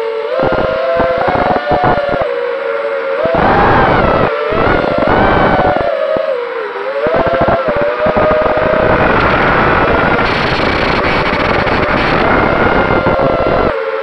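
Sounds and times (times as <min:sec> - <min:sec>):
rough buffeting noise: 0:00.0 - 0:02.4, 0:03.0 - 0:13.8
drone motors whining: 0:00.0 - 0:14.0.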